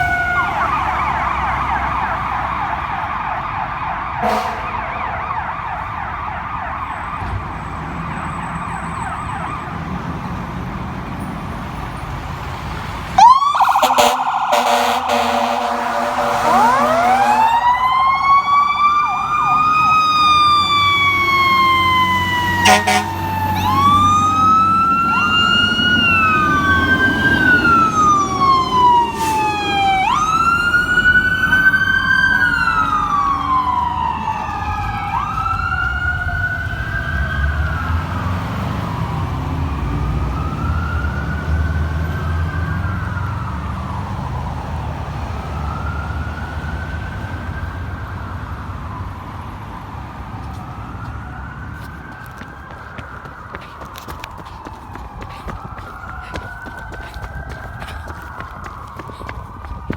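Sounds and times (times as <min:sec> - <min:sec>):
fire truck sirens wailing: 0:00.0 - 0:59.9
truck engines rumbling: 0:00.0 - 0:59.9.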